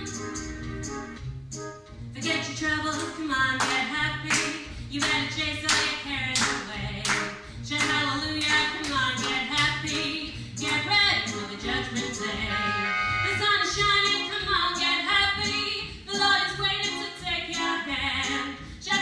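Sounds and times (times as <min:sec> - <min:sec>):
backing track with pulsing bass: 0:00.0 - 0:17.4
woman singing into a microphone: 0:02.2 - 0:19.0.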